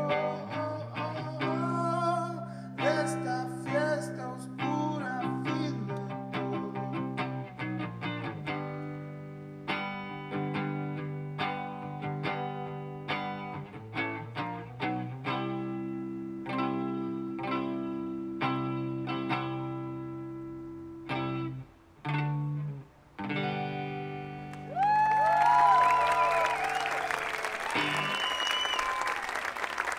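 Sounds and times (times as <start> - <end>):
electric guitar chords and notes: 0.0 - 25.8, 27.6 - 28.4.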